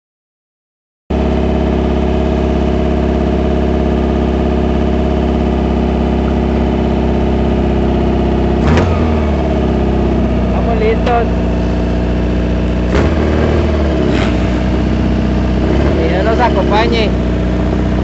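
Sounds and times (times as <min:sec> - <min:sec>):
buggy engine idling: 0:01.1 - 0:18.0.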